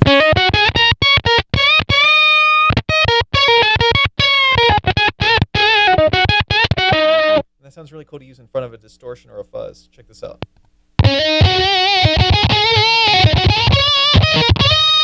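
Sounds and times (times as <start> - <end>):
electric guitar with octave effect: 0.0 - 7.5, 10.4 - 15.0.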